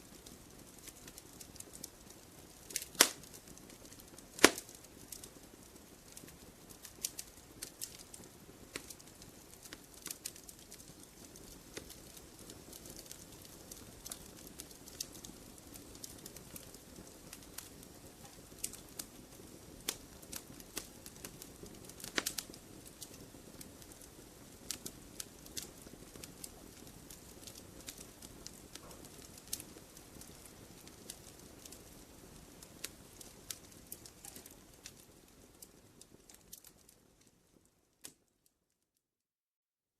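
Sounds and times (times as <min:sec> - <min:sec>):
campfire crackling and popping: 0:00.0 - 0:38.3.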